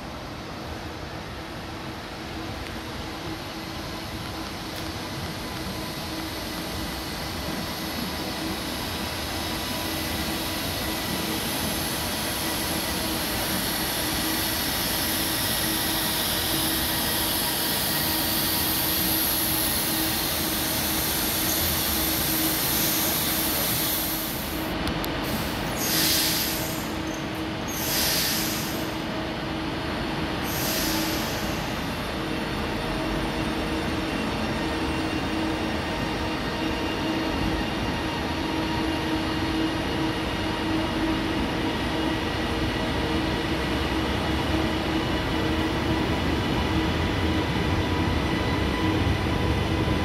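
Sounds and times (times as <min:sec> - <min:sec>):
train traction hum: 0:00.0 - 0:50.0.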